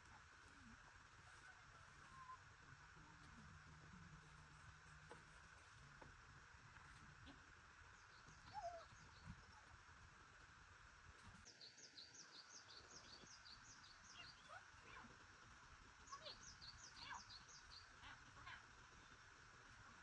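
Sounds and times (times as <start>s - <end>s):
faint bird chirping: 0.0s - 6.0s, 6.8s - 10.6s, 11.2s - 20.0s.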